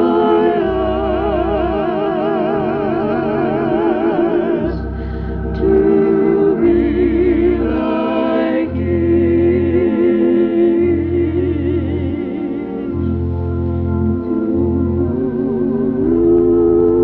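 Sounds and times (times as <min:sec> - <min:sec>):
organ bass line: 0:00.0 - 0:17.0
organ chords with vibrato: 0:00.0 - 0:17.0.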